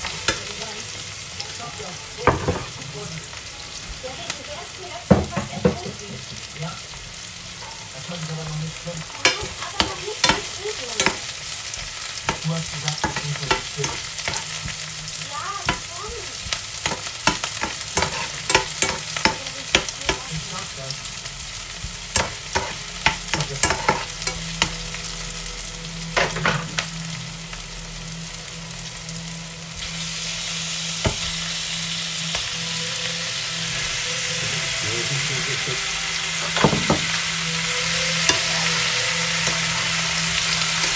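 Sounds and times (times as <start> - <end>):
onions sizzling in frying pan: 0.0 - 40.9.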